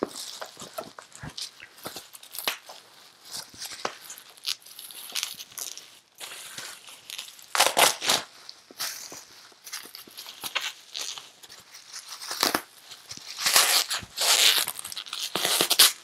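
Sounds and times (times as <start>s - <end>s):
plastic packing material crinkling: 0.0s - 16.0s.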